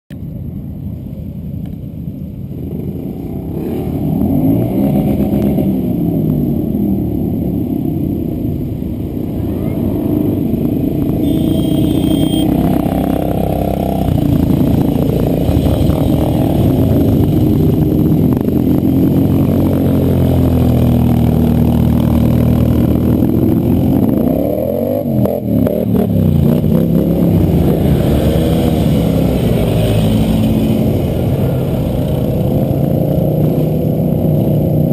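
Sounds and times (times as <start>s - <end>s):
quad bike engines revving past: 3.0s - 34.9s.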